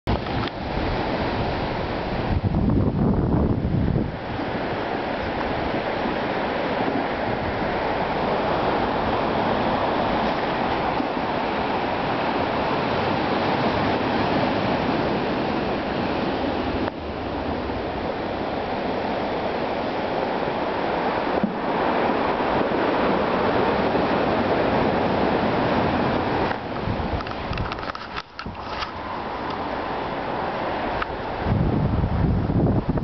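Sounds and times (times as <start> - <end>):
surf washing over boulders: 0.1 - 33.0.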